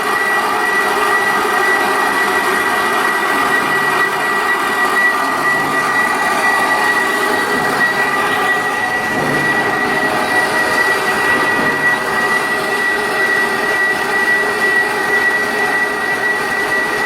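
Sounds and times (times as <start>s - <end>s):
boring machine whining: 0.0s - 17.0s.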